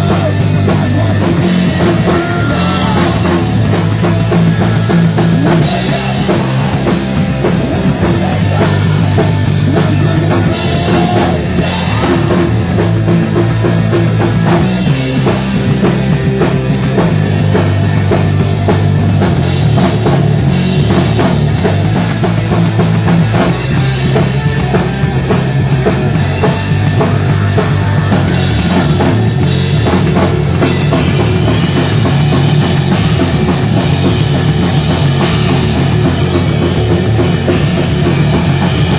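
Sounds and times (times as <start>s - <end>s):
distorted electric guitars: 0.0s - 38.9s
hard rock band playing: 0.0s - 38.9s
pounding drum kit: 0.0s - 38.9s.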